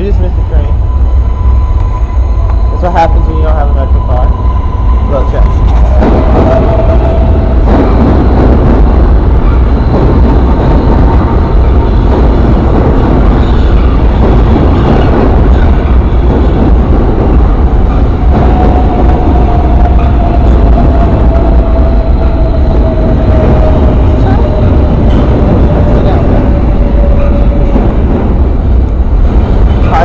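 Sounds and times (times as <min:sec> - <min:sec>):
subway train rumbling past: 0:00.0 - 0:30.0
thin whine: 0:00.0 - 0:30.0.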